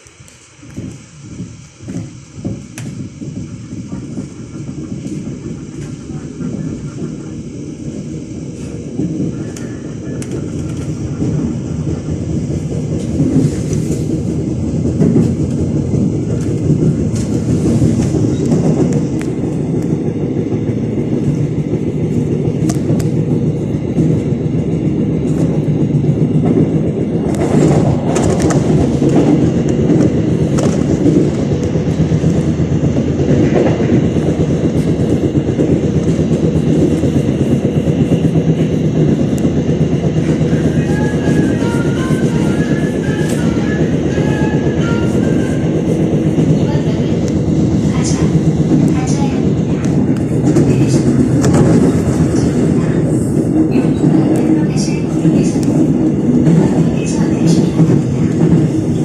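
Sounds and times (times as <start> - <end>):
electric train rumble: 0.0 - 59.0.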